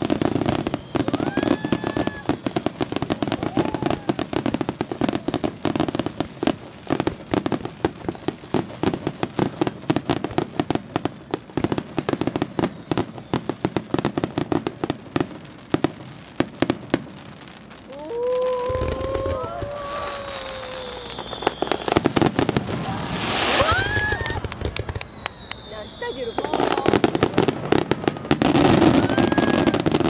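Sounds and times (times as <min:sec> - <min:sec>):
fireworks bangs and crackling pops: 0:00.0 - 0:30.0.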